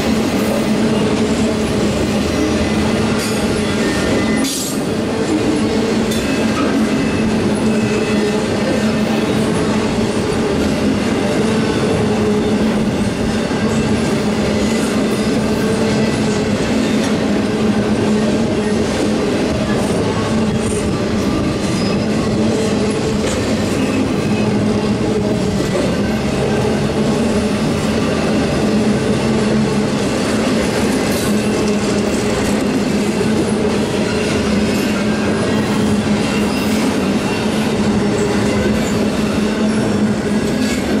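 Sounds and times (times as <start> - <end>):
freight train rumbling past: 0.0 - 41.0
rail joint clicks: 0.0 - 41.0.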